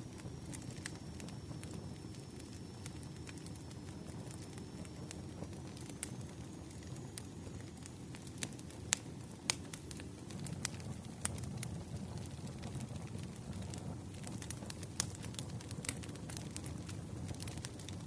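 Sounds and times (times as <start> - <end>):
low rumble of flames: 0.0 - 18.0
wood crackling and popping: 0.0 - 18.0.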